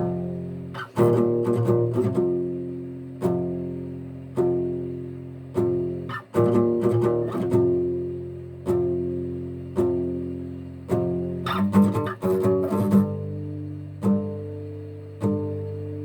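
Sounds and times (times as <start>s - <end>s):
acoustic guitar riff: 0.0s - 16.0s.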